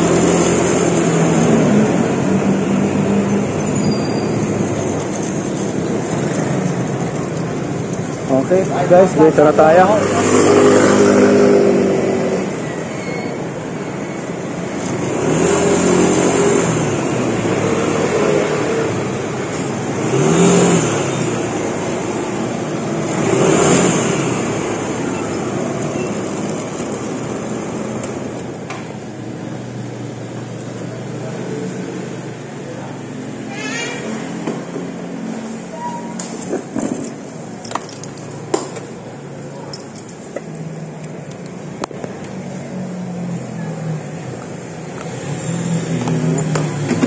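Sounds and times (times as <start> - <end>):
road noise: 0.0 - 47.0
vehicles passing: 0.0 - 47.0.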